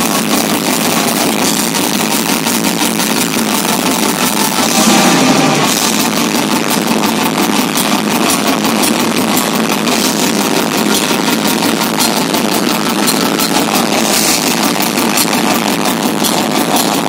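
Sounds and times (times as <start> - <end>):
distorted electric guitars: 0.0 - 17.0
rapid drum hits: 0.0 - 17.0.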